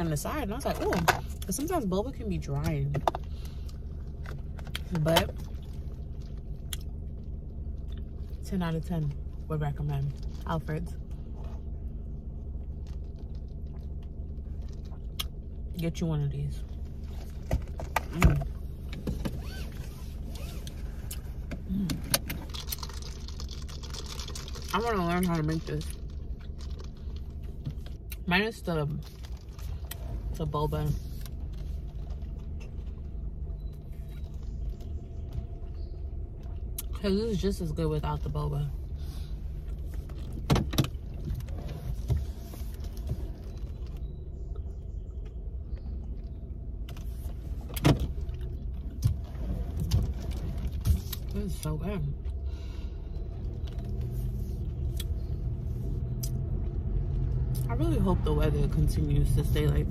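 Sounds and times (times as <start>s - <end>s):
car cabin hum: 0.0s - 59.9s.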